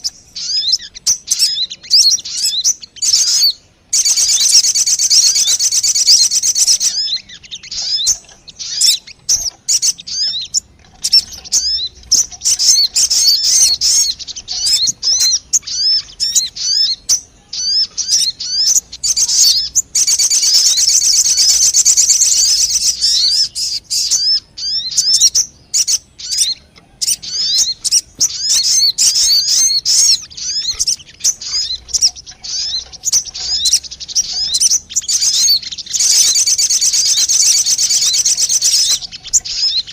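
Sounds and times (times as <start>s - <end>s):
bird lure chirping and twittering: 0.0s - 39.9s.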